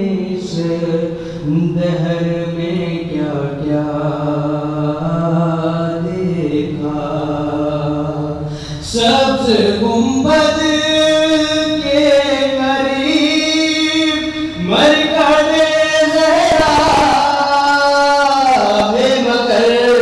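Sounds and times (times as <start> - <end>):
man chanting a lament: 0.0 - 20.0.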